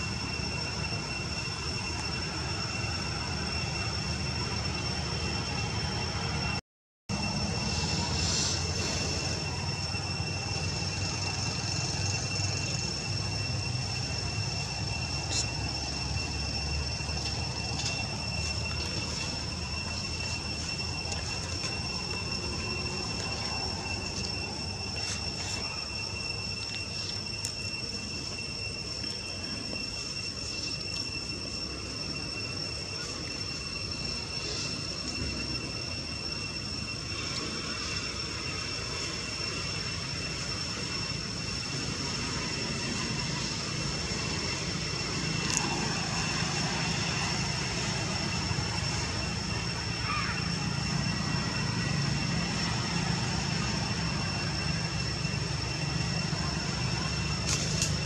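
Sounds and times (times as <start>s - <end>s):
low engine drone: 0.0s - 58.0s.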